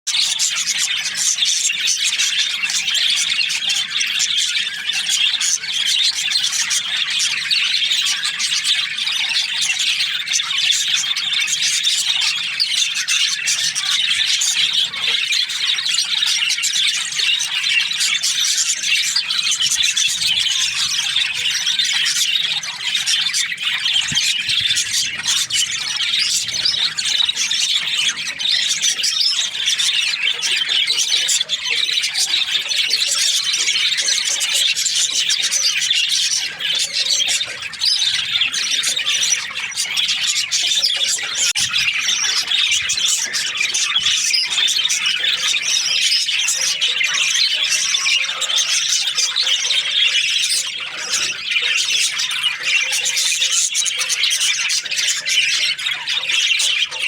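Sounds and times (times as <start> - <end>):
budgies chattering: 0.1 - 57.0.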